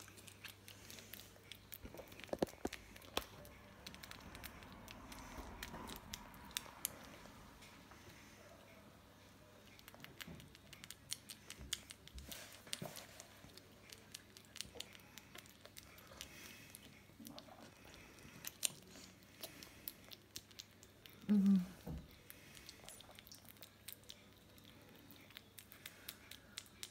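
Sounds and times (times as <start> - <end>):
squirrel chewing with sharp clicks: 0.0 - 26.9.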